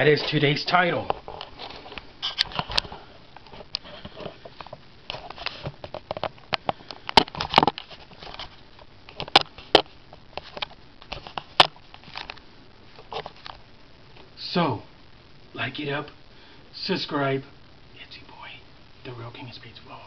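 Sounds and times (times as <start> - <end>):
low hiss: 0.0 - 20.0.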